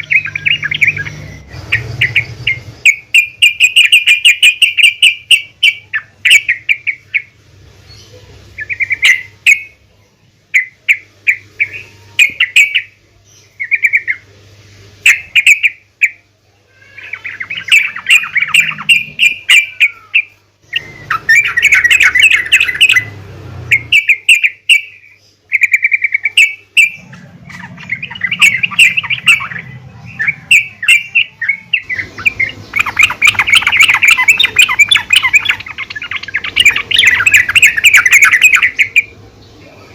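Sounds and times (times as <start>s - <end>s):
bulbul chattering call: 0.0s - 9.8s, 15.0s - 39.9s.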